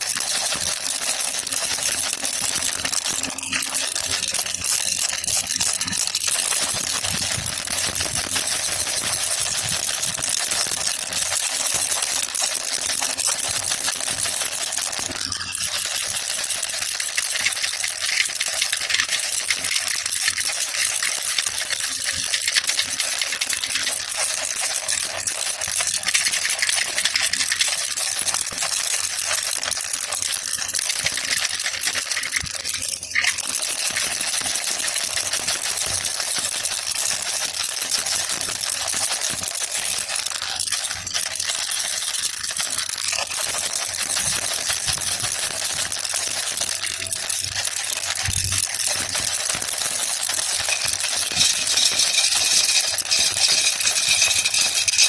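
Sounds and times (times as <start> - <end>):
baby rattle shaken: 0.0 - 55.0.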